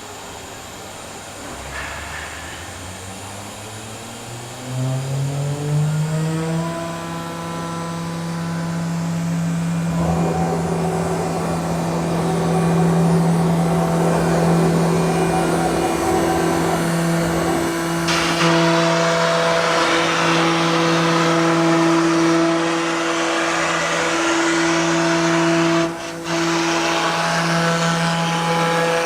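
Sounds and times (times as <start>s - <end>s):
router spindle whine: 3.0s - 29.0s
router bit cutting wood: 4.6s - 29.0s.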